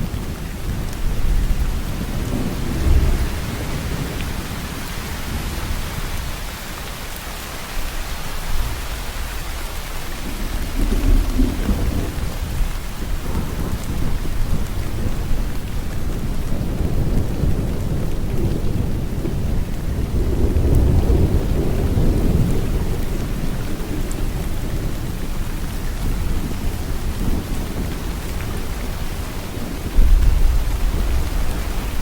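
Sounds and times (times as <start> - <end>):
heavy rain falling: 0.0 - 32.0
low rumble of thunder: 0.0 - 32.0.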